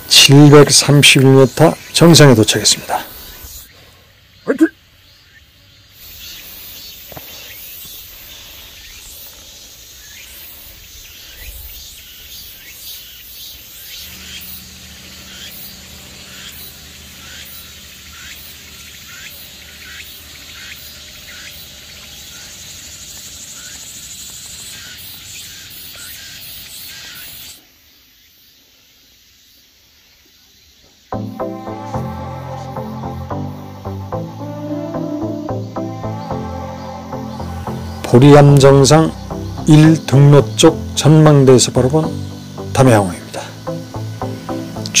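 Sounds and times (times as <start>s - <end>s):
high hissing drone: 0.0s - 4.6s, 5.9s - 27.7s, 31.1s - 45.0s
insects buzzing chorus: 0.0s - 45.0s
pulsing insect call: 0.0s - 45.0s.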